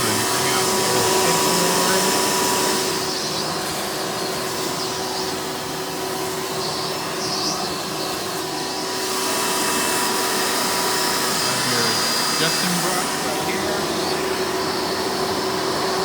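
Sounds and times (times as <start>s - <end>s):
vacuum cleaner whine and hum: 0.0s - 16.0s.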